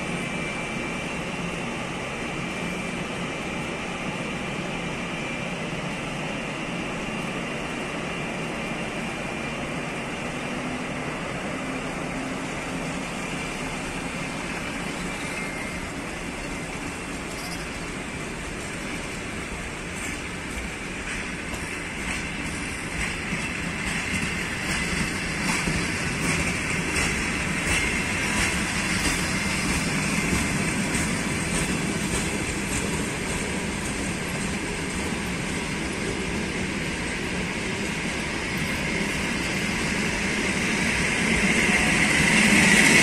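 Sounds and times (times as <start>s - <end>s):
electric locomotive hum and whine: 0.0s - 43.0s
train wheels rolling on rails: 0.0s - 43.0s.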